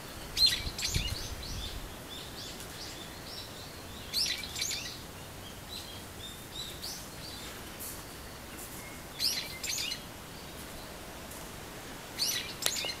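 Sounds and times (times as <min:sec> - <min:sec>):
songbirds chirping: 0:00.0 - 0:13.0
steady background hiss: 0:00.0 - 0:13.0.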